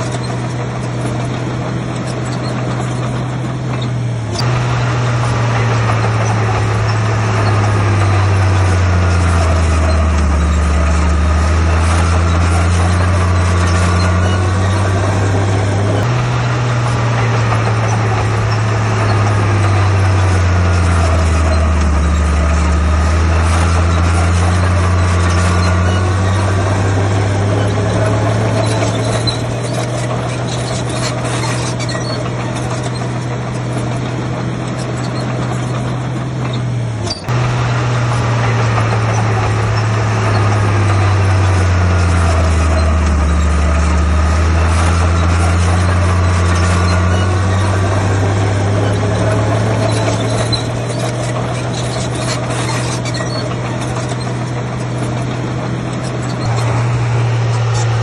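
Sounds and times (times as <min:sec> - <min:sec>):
heavy diesel engine labouring: 0:00.0 - 0:58.0.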